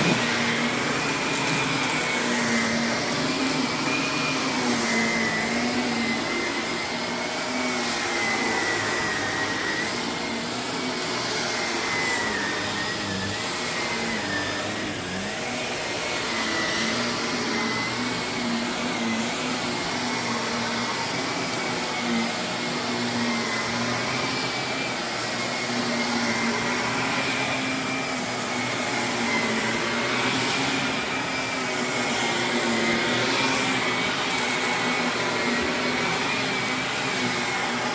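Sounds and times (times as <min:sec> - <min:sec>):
vacuum cleaner running on carpet: 0:00.0 - 0:37.9.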